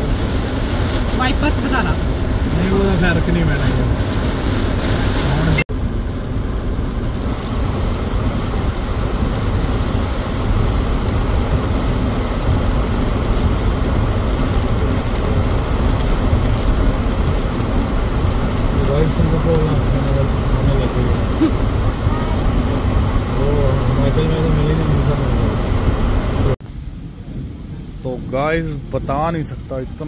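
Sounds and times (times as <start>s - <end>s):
car driving through heavy rain: 0.0s - 30.0s.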